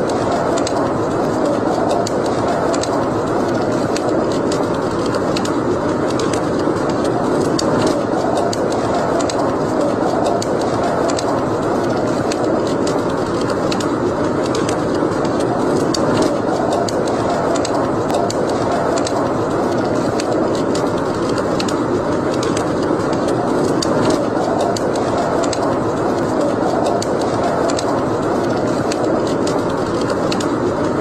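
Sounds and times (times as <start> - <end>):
rushing flame noise: 0.0 - 31.0
wood fire crackling: 0.0 - 31.0.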